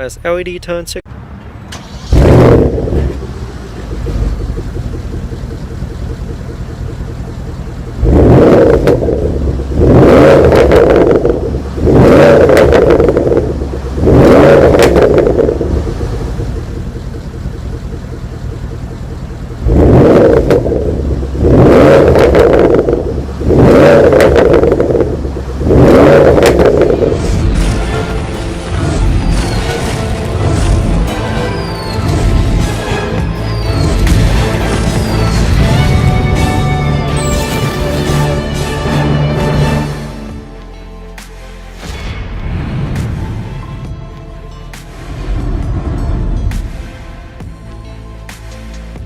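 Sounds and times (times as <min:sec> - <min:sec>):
car exhaust idling and revving: 0:00.0 - 0:49.0.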